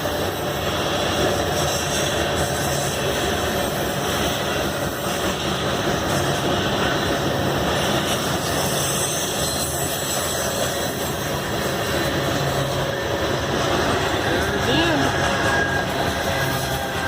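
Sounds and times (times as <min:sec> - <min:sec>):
train rumble and rail noise: 0:00.0 - 0:17.0.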